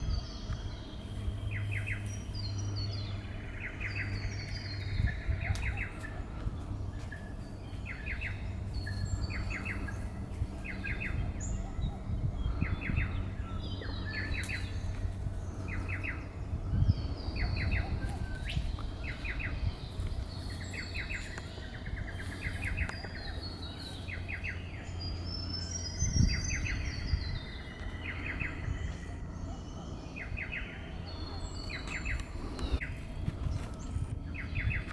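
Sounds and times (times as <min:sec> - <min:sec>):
steady low rumble: 0:00.0 - 0:34.9
wild birds calling: 0:00.0 - 0:34.9.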